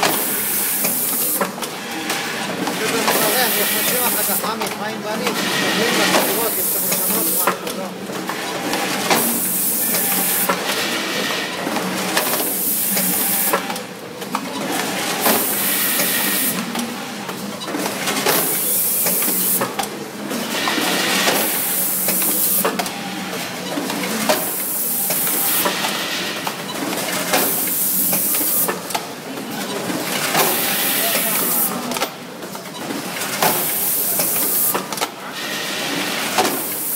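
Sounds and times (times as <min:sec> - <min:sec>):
conveyor clicking and clacking: 0:00.0 - 0:35.3.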